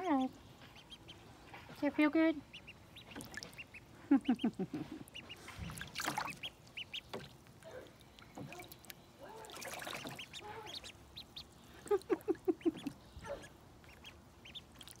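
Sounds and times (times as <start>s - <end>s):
ducklings peeping: 0.0s - 7.5s, 8.2s - 15.0s
ducklings dabbling in water: 0.0s - 15.0s.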